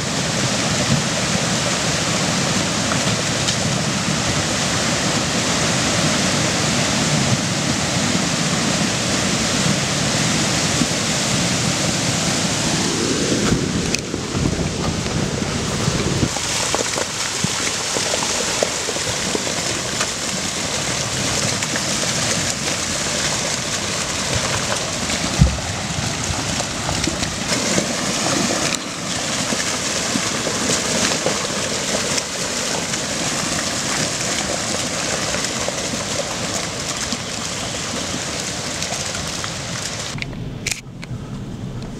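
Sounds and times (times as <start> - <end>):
muddy water rushing with rocks: 0.0 - 41.9.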